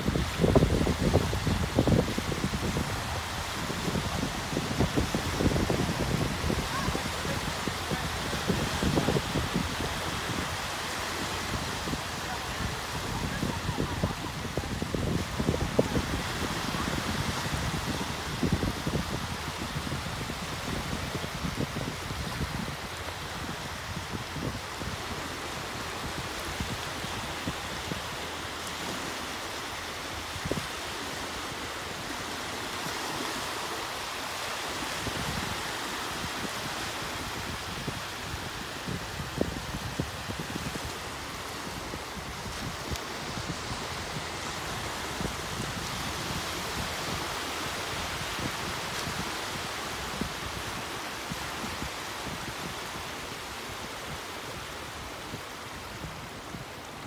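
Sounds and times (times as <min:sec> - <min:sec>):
small waves breaking on shore: 0:00.0 - 0:57.0
wind buffeting microphone: 0:00.0 - 0:57.0.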